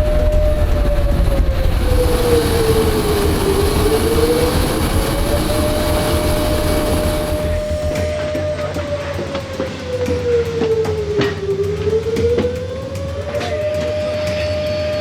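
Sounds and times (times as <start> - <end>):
aircraft engine low rumble: 0.0 - 15.0
aircraft engine whine: 0.0 - 15.0.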